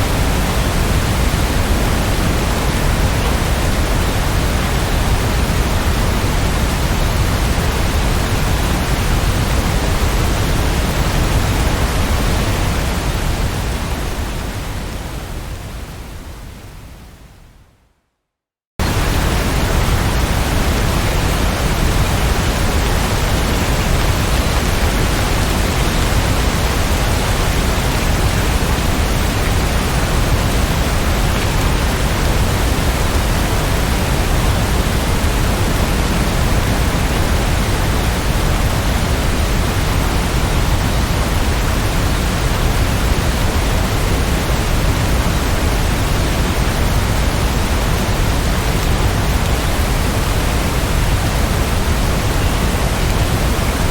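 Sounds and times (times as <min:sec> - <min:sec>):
heavy rain hissing: 0:00.0 - 0:16.8, 0:18.8 - 0:53.9.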